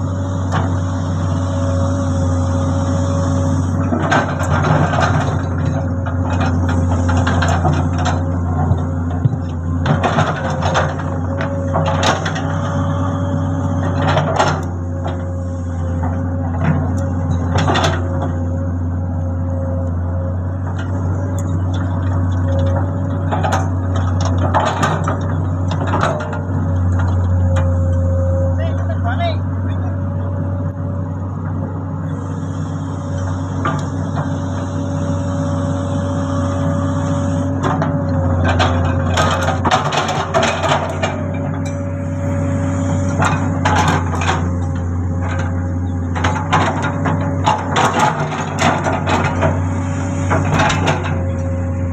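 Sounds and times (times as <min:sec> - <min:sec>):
excavator diesel engine running: 0:00.0 - 0:51.9
hydraulic whine: 0:00.0 - 0:51.9.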